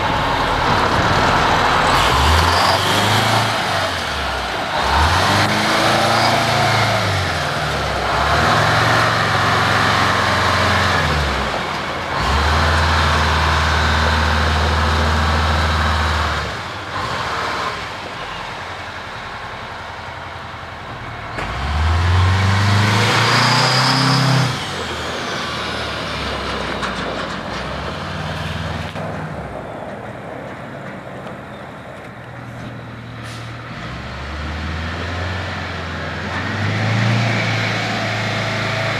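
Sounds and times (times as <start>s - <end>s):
truck diesel engine accelerating: 0.0s - 38.9s.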